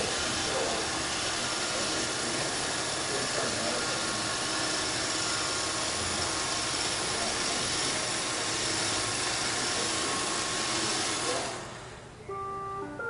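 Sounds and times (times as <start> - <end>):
robot vacuum motor and brush: 0.0 - 11.7.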